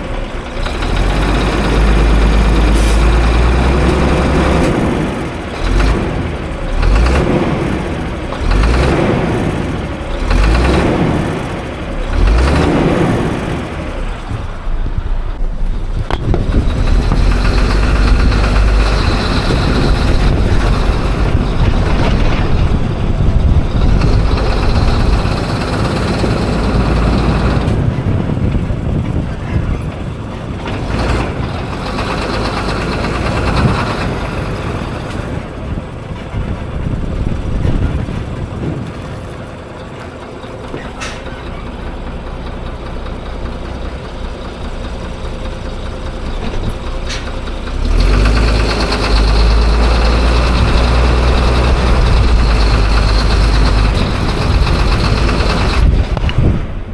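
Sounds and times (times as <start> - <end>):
diesel engine knocking clatter: 0.0 - 56.9.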